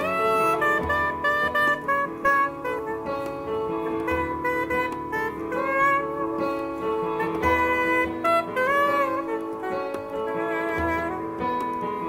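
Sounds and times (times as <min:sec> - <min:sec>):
hand drum: 0:00.0 - 0:12.0
keyboard: 0:00.0 - 0:12.0
saxophone melody: 0:00.0 - 0:12.0.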